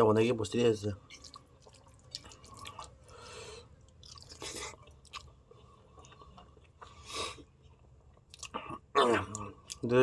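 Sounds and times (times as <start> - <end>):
person chewing food: 1.0 - 9.9.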